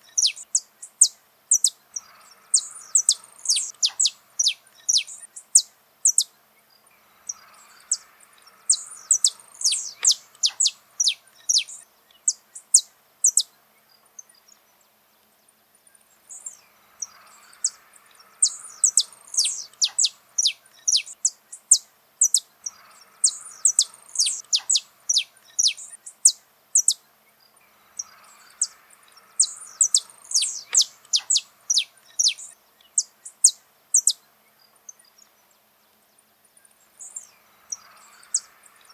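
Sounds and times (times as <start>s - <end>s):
finch singing: 0.0s - 6.4s, 7.0s - 14.8s, 16.0s - 36.0s, 36.7s - 38.9s.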